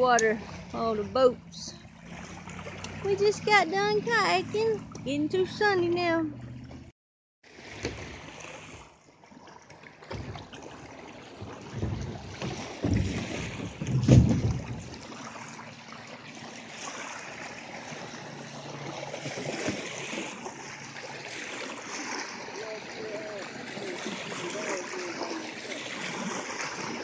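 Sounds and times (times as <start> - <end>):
small waves lapping on sand: 0.0 - 5.8, 7.4 - 11.8, 14.9 - 27.0.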